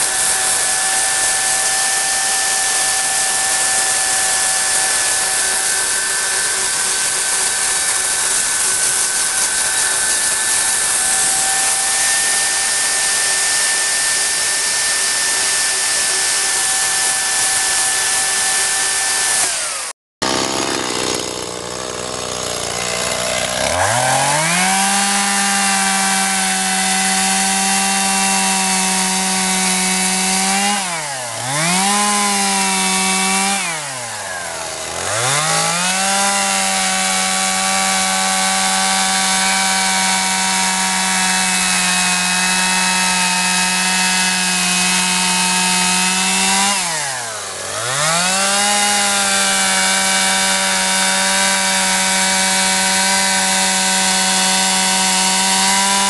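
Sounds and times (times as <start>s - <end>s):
chainsaw cutting into log: 0.0s - 56.0s
chainsaw revving: 0.0s - 56.0s.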